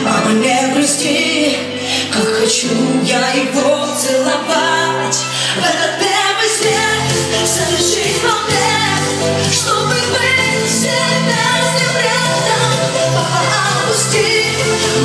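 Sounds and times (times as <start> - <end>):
band playing pop song: 0.0 - 15.0
person singing: 0.0 - 15.0.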